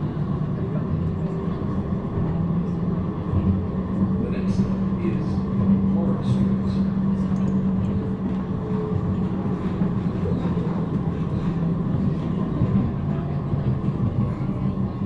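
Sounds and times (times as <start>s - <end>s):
passenger train rumbling: 0.0s - 15.0s.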